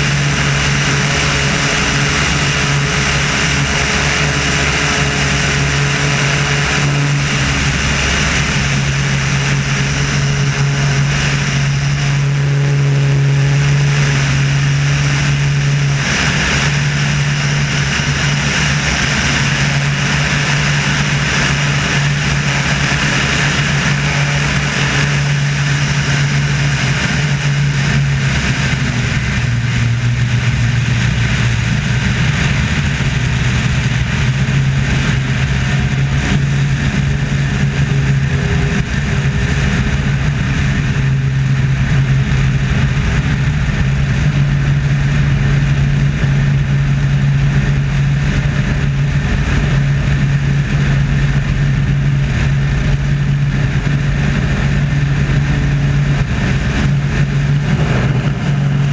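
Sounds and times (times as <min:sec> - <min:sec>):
airflow rushing: 0:00.0 - 0:58.9
propeller plane engine drone: 0:00.0 - 0:58.9.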